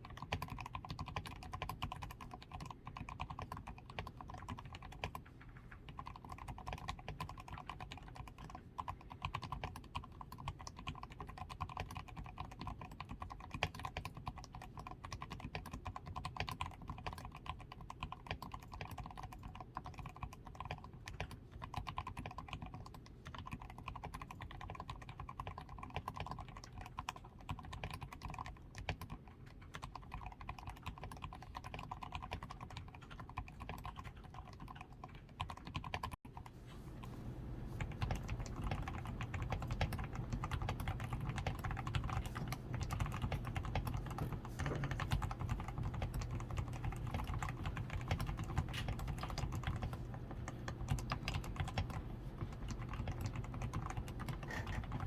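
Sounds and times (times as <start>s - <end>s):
mechanical keyboard typing: 0.0s - 36.2s, 37.7s - 55.0s.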